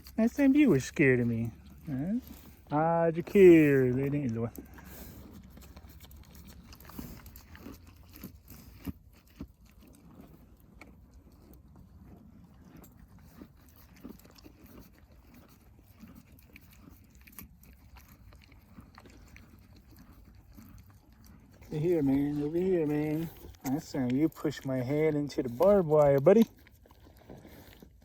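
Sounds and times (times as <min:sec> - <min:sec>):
horse chewing grain: 0:00.0 - 0:28.0.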